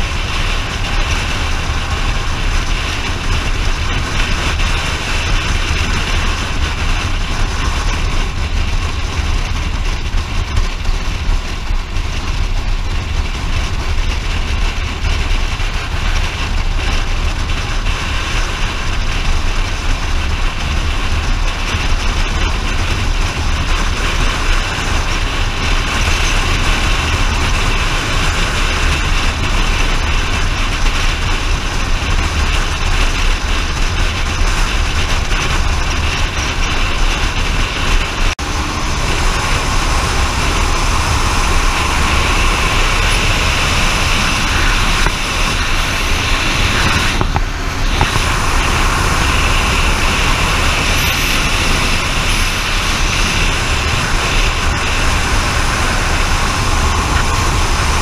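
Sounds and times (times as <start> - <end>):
wind and road noise: 0.0 - 58.0
wind buffeting microphone: 0.0 - 58.0.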